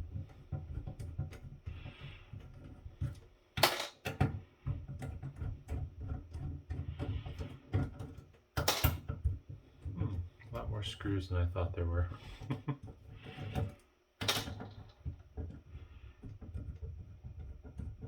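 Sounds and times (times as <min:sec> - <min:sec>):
tool and handling rumble: 0:00.0 - 0:18.0.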